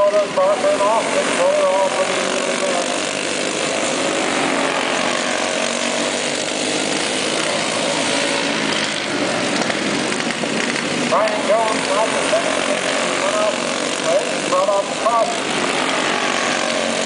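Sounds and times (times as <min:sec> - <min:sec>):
racing karts engines: 0:00.0 - 0:17.0.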